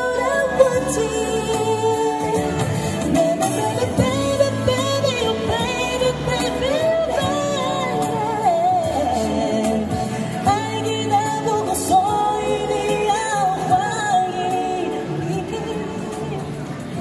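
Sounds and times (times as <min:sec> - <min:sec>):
person singing with vibrato: 0:00.0 - 0:17.0
pop accompaniment: 0:00.0 - 0:17.0.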